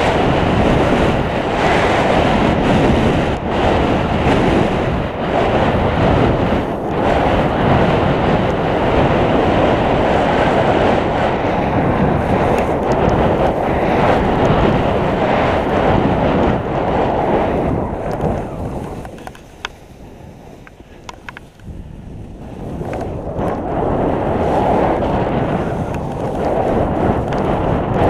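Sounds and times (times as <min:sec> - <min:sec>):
skis running through snow: 0:00.0 - 0:28.0
wind rushing over microphone: 0:00.0 - 0:28.0.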